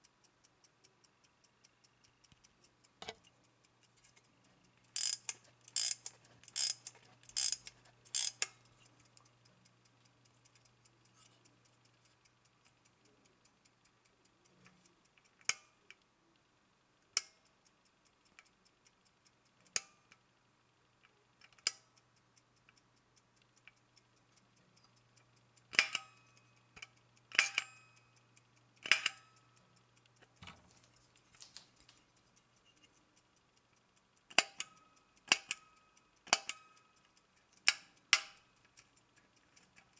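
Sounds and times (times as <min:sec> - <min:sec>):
clock ticking: 0:00.0 - 0:16.4, 0:17.0 - 0:39.9.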